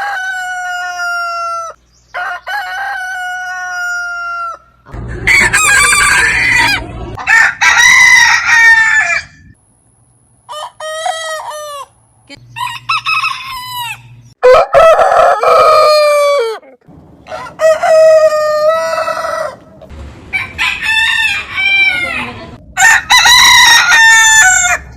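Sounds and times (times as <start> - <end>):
roosters crowing: 0.0 - 9.6, 10.4 - 16.6, 17.2 - 24.9.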